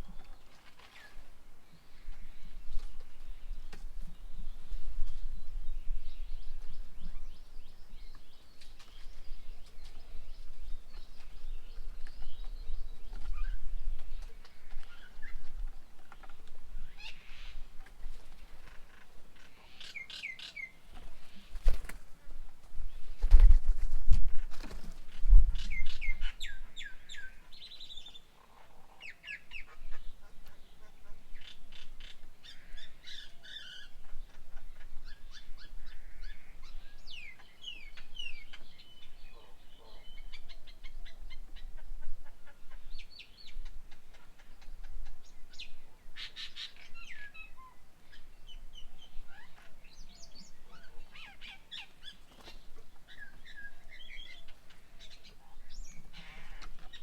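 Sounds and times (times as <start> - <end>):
birds chirping: 0.0 - 23.6, 24.5 - 57.0.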